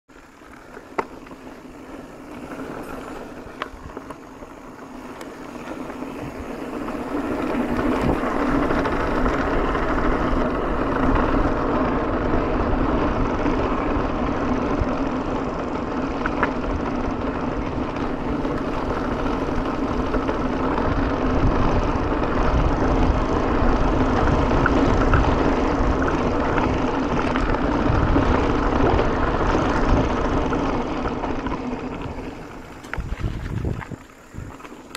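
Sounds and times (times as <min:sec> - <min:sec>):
bike tyre noise on concrete: 0:00.1 - 0:34.9
wind rushing over microphone: 0:05.2 - 0:15.1, 0:16.6 - 0:34.9.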